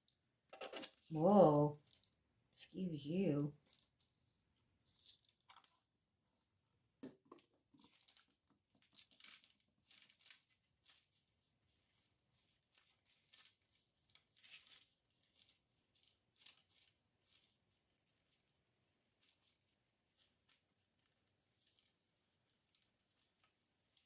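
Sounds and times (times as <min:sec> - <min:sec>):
rustling and crinkling of material: 0:01.8 - 0:02.4, 0:03.5 - 0:24.0.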